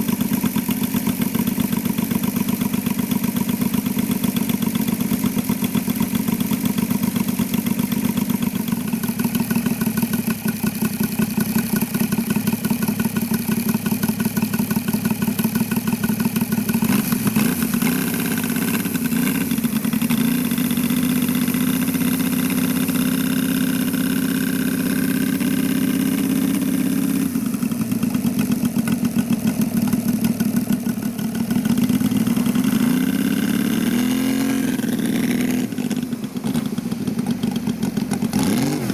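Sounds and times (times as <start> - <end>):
model plane engine in flight: 0.0 - 38.9.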